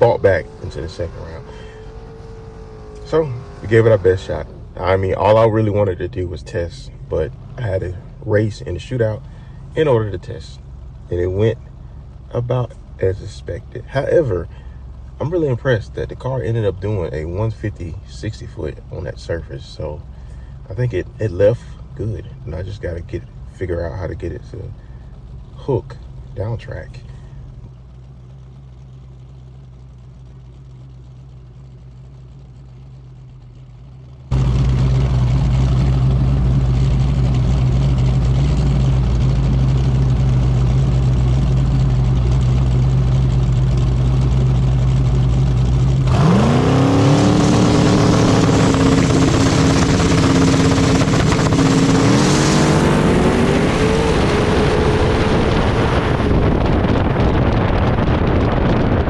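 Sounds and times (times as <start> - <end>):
drag race car engine: 0.0 - 59.0.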